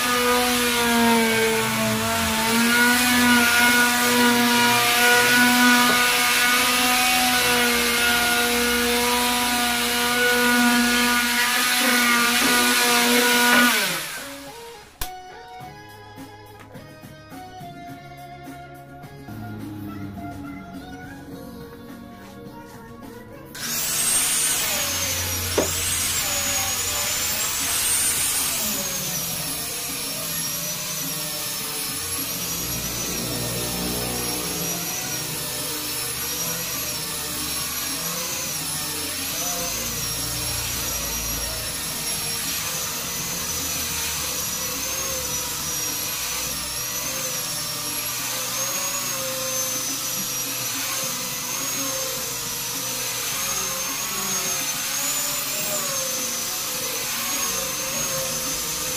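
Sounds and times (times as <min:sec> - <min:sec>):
electric grinder sanding wood: 0:00.0 - 0:14.9, 0:23.5 - 0:58.9.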